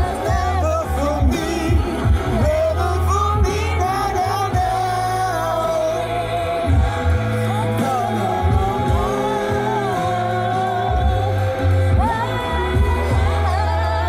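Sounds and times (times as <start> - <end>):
man and woman singing along: 0.0 - 14.0
pop song on car stereo: 0.0 - 14.0.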